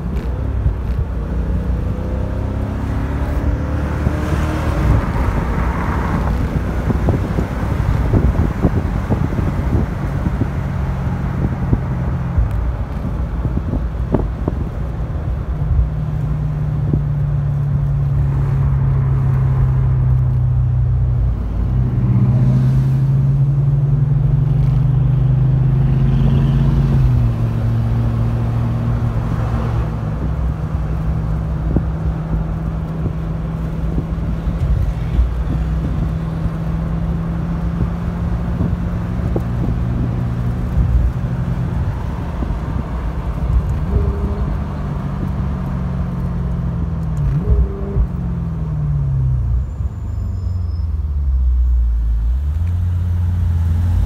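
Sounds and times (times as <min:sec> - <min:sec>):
car engine drone from cabin: 0:00.0 - 0:54.0
road rumble: 0:00.0 - 0:54.0.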